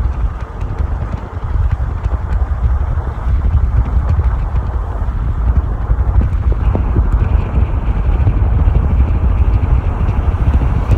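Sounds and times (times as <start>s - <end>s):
vehicle driving rumble: 0.0s - 10.9s
wind buffeting microphone: 0.0s - 10.9s.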